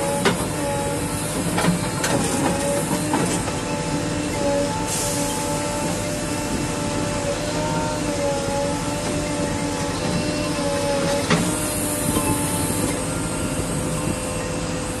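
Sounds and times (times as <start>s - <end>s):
diesel engine and hydraulics: 0.0s - 15.0s.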